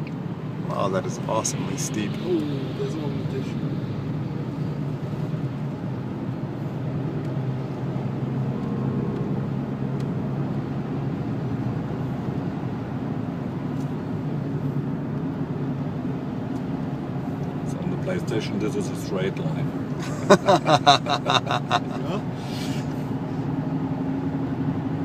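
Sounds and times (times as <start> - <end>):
car engine drone: 0.0 - 25.0
tyre and road noise: 0.0 - 25.0.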